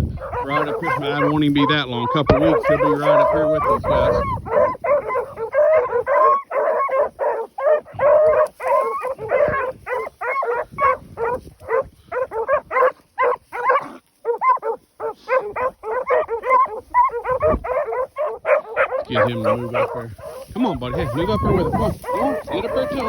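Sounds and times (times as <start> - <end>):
dogs barking and bawling: 0.0 - 23.0.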